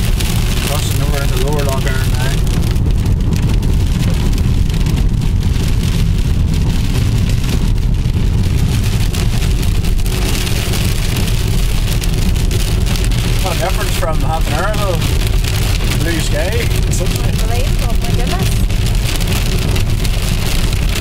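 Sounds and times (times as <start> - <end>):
heavy rain on a car: 0.0 - 21.0
road and engine noise: 0.0 - 21.0.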